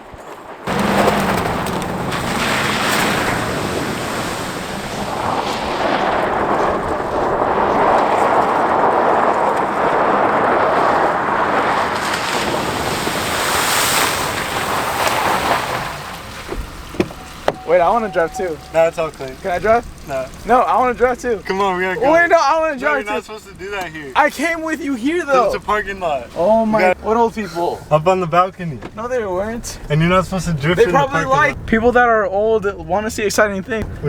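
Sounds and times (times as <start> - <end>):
steady rushing noise: 0.5 - 28.0.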